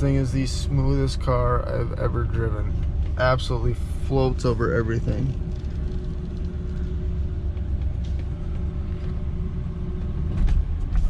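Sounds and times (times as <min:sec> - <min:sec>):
car engine and tyres rumbling: 0:00.0 - 0:11.0
faint steady hum: 0:00.0 - 0:11.0.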